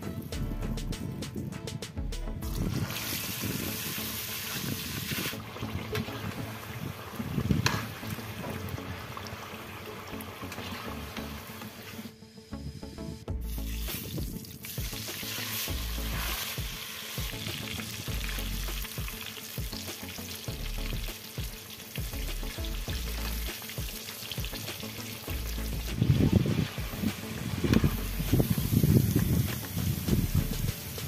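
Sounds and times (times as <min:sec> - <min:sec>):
food sizzling in hot oil: 0:02.5 - 0:12.1, 0:13.5 - 0:31.0.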